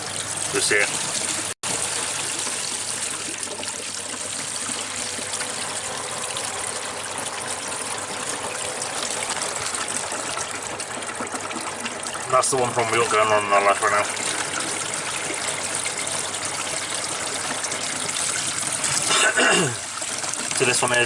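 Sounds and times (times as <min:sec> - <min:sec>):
drain water trickling through pipe: 0:00.0 - 0:21.0.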